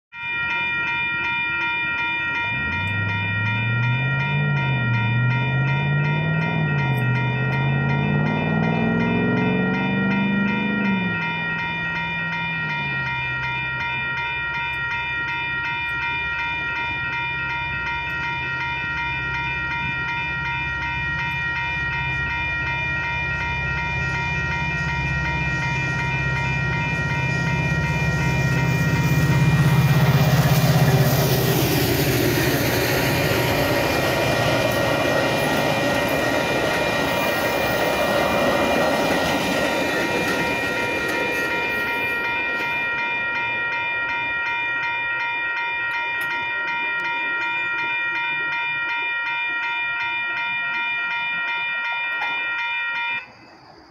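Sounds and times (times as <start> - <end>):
railroad crossing bell ringing: 0.1 - 53.9
wheels on rail: 0.1 - 53.9
train passing: 0.2 - 53.9.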